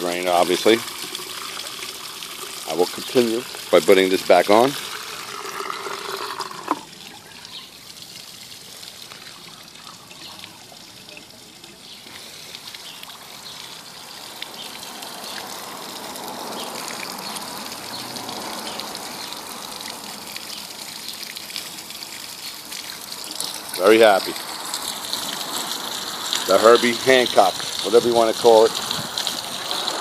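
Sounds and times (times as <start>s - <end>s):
water pouring onto pavement: 0.0s - 30.0s.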